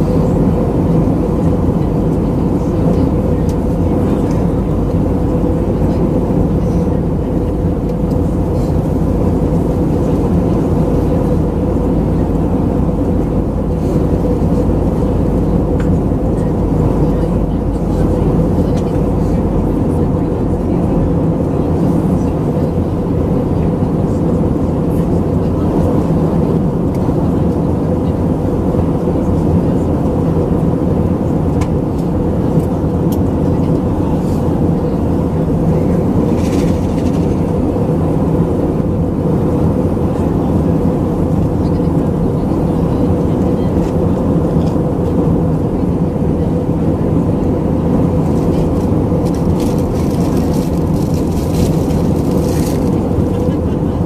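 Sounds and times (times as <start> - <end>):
airplane cabin engine drone: 0.0 - 54.0
steady low hum: 0.0 - 54.0.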